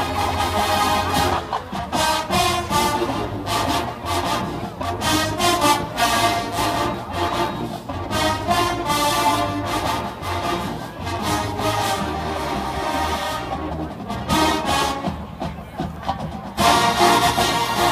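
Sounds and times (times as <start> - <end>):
marching band brass playing pop: 0.0 - 17.9.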